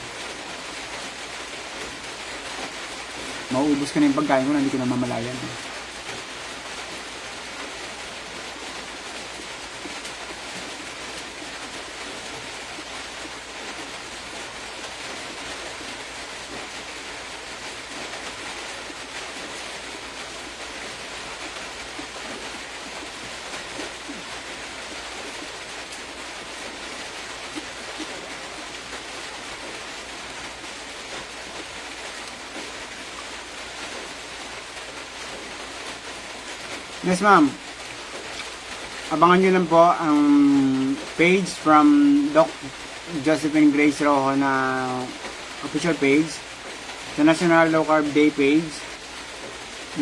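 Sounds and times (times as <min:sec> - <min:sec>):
steady background hiss: 0:00.0 - 0:50.0.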